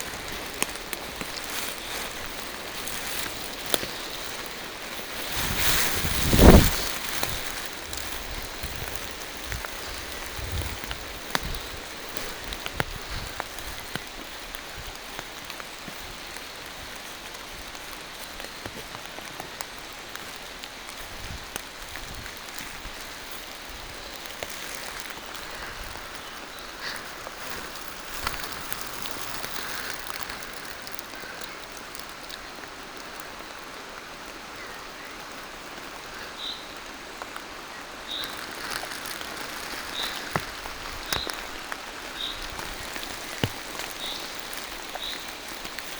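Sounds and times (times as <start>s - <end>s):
rain falling through trees: 0.0s - 45.9s
sharp raindrop ticks: 0.0s - 45.9s.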